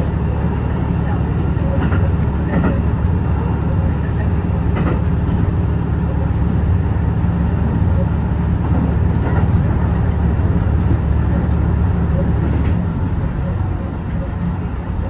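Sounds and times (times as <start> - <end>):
moving train rumbling: 0.0 - 15.0.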